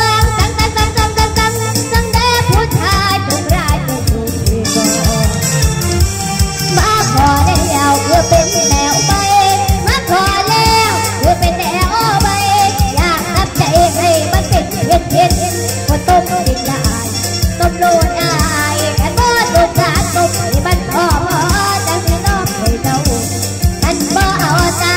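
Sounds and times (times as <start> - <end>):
girl singing into microphone: 0.0 - 5.4, 6.7 - 24.9
music with steady beat: 0.0 - 24.9.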